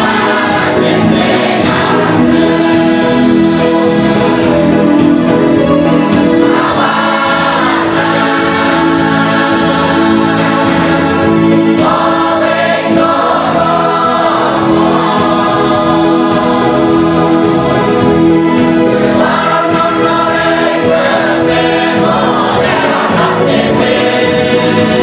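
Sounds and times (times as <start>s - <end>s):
male choir singing a hymn: 0.0s - 25.0s.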